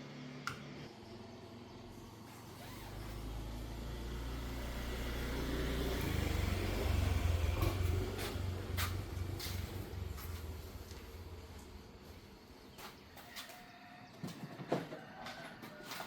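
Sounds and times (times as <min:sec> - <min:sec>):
low mechanical rumble: 0:00.0 - 0:13.3.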